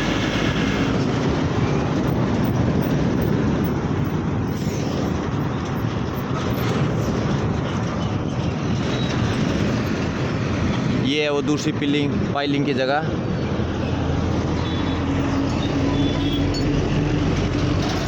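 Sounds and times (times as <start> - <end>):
vehicle and road rumble: 0.0 - 18.0.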